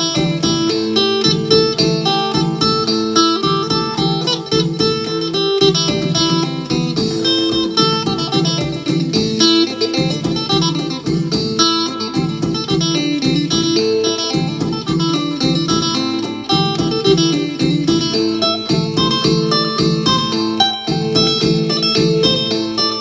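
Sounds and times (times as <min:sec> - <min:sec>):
plucked lute playing a lively tune: 0:00.0 - 0:23.0.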